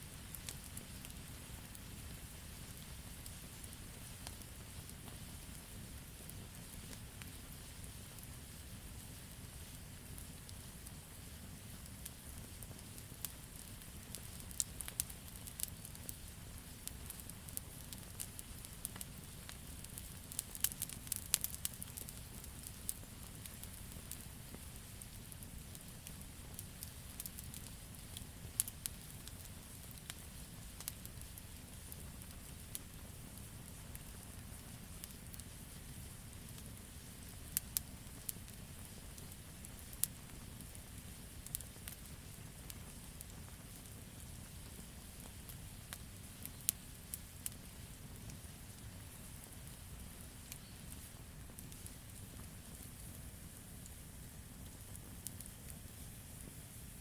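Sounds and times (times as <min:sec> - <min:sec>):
campfire crackling: 0:00.0 - 0:57.0
low rumble of flames: 0:00.0 - 0:57.0
sharp pops from burning logs: 0:00.2 - 0:57.0.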